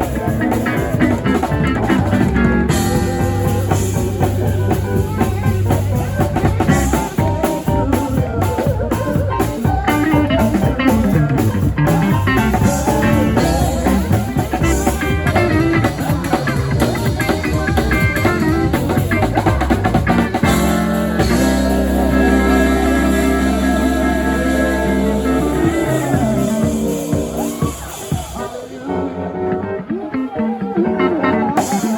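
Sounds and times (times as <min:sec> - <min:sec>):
music with steady beat: 0:00.0 - 0:29.2
sustained low notes: 0:00.1 - 0:29.9.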